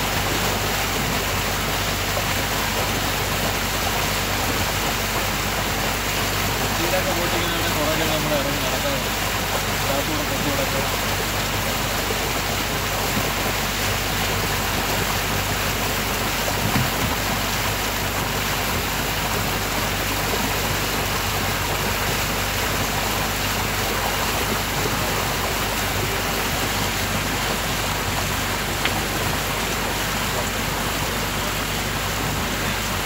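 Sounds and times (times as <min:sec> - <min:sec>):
low engine hum: 0:00.0 - 0:33.0
water rushing: 0:00.0 - 0:33.0
wind: 0:00.0 - 0:33.0.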